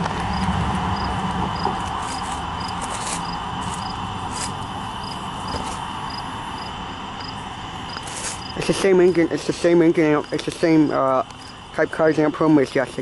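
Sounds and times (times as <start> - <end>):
crickets chirping: 0.0 - 13.0
low rumble and hiss: 0.0 - 13.0.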